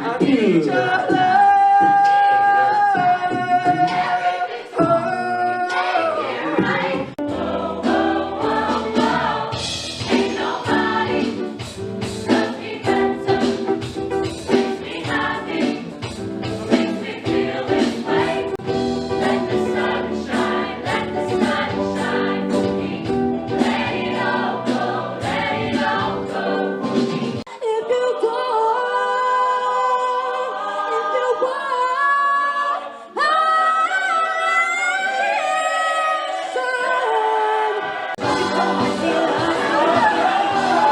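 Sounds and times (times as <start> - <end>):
choir singing in harmony: 0.0 - 40.9.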